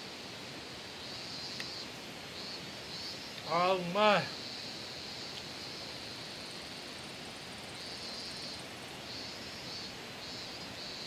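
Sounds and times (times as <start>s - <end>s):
steady hiss: 0.0s - 11.0s
high-pitched insect trill: 1.0s - 11.0s.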